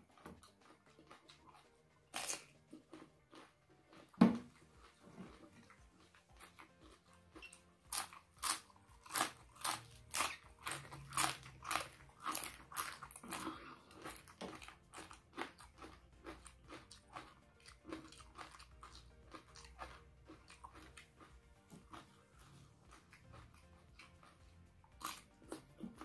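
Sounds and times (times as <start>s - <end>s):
cracker crunching and chewing: 0.0s - 26.0s.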